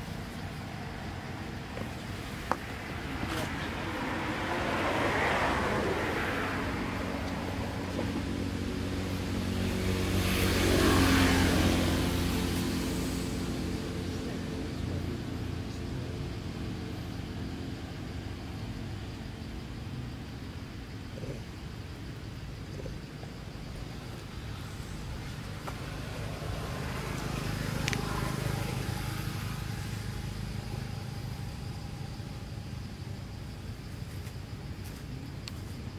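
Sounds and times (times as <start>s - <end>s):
vehicle engine passing: 0.0s - 19.5s, 23.6s - 33.2s.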